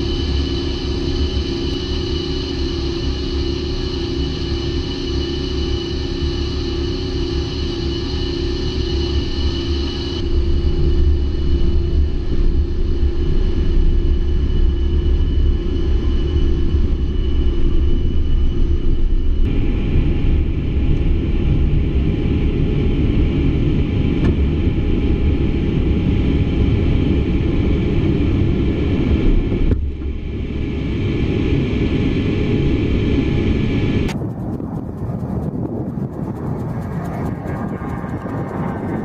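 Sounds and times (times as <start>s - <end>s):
jet engines rumbling: 0.0s - 39.0s
steady high whine: 0.0s - 39.0s.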